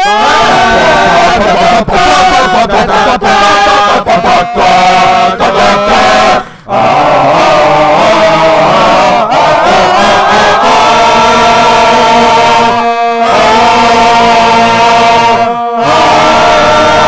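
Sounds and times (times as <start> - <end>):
layered voice singing held chords: 0.0 - 17.0.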